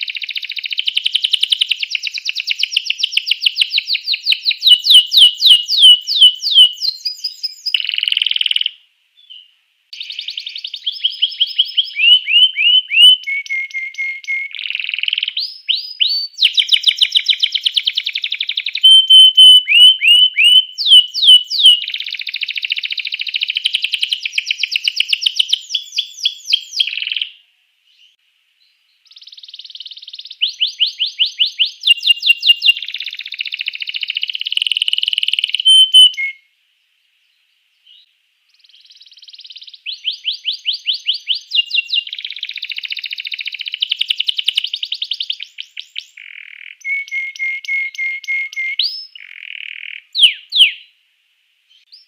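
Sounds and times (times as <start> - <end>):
canary singing trills: 0.0 - 28.2, 29.0 - 36.5, 37.8 - 50.9.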